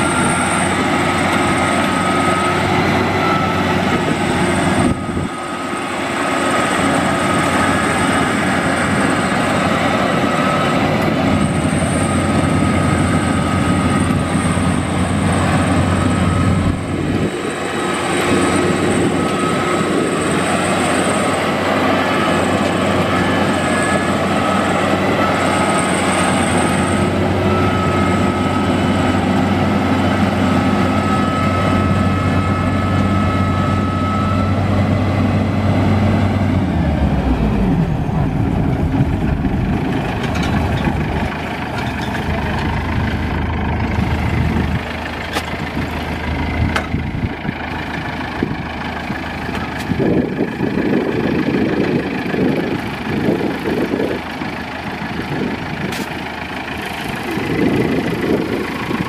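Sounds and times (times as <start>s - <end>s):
combine harvester engine drone: 0.0s - 59.0s
high machine whine: 0.0s - 59.0s.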